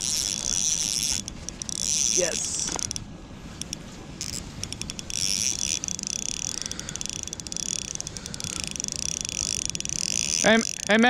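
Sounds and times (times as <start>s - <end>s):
fishing reel clicking and whirring: 0.0s - 11.0s.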